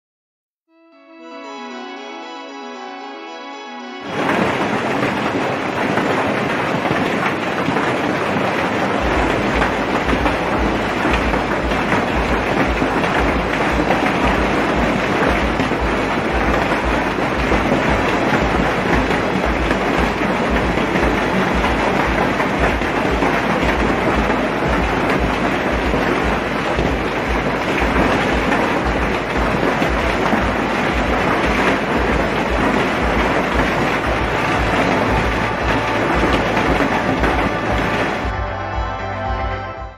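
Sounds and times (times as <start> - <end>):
heavy rain pouring: 3.9 - 38.9.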